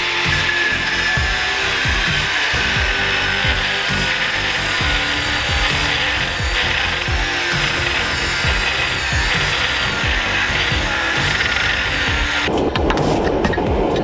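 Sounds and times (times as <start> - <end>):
angle grinder cutting iron bar: 0.0 - 12.6
music with low drum beat: 0.0 - 14.0.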